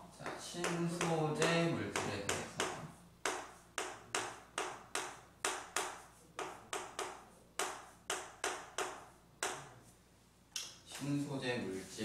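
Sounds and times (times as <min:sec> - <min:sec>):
chalk tapping on chalkboard: 0:00.2 - 0:09.9.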